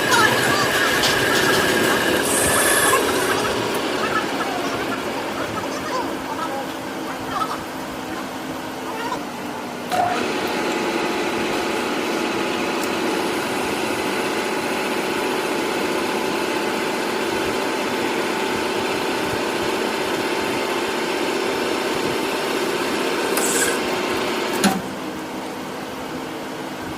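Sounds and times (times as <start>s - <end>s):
metal cutting machine humming: 0.0s - 26.9s.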